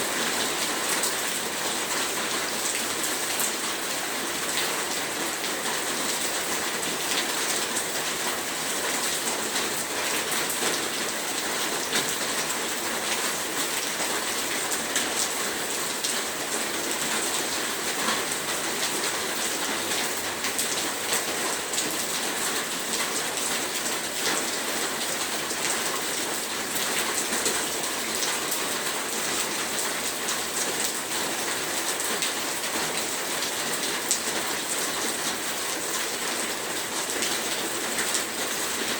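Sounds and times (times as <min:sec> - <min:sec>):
heavy rain downpour: 0:00.0 - 0:38.9.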